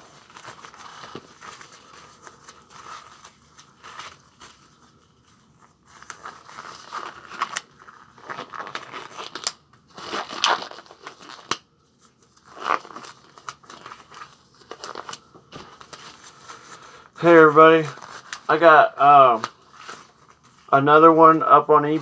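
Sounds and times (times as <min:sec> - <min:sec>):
plastic wrapping crinkling and tearing: 0:00.0 - 0:22.0.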